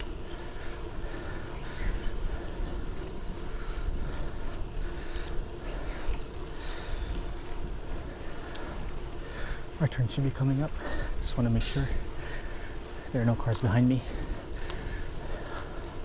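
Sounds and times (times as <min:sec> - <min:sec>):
bike rolling over pavement: 0:00.0 - 0:16.0
wind rumbling on microphone: 0:00.0 - 0:16.0.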